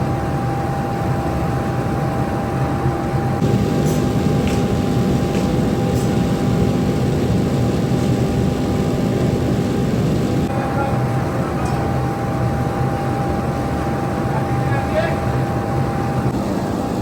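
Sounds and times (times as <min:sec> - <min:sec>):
constant humming tone: 0:00.0 - 0:17.0
machinery low rumble: 0:00.0 - 0:17.0.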